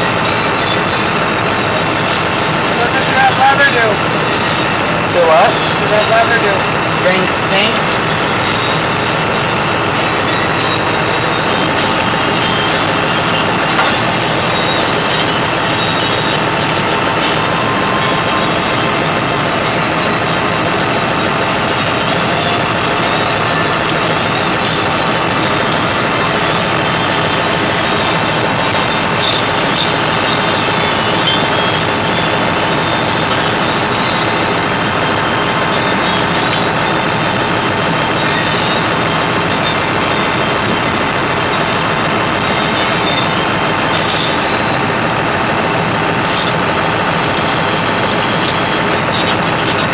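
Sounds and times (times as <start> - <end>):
engine idling loudly: 0.0 - 49.9.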